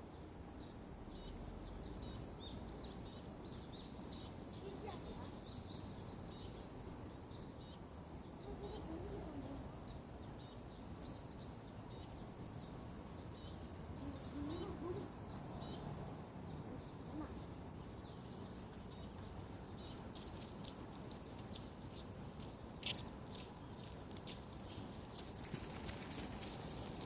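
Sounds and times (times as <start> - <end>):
ambient outdoor hiss: 0.0 - 27.0
small songbirds chirping: 0.0 - 27.0.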